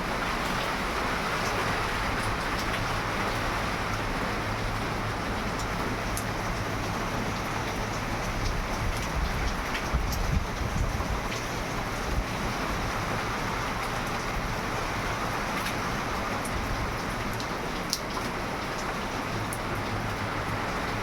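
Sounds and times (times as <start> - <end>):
steady rainfall hiss: 0.0 - 21.0.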